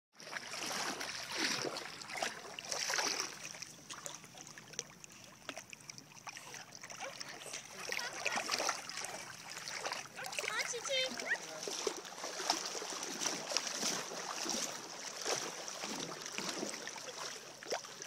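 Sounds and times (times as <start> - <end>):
water splashing from dog paddling: 0.2 - 18.0.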